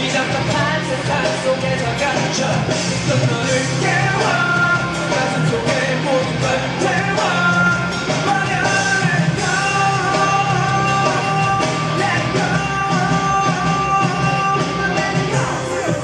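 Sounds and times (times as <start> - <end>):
loud music with singing: 0.0 - 16.0.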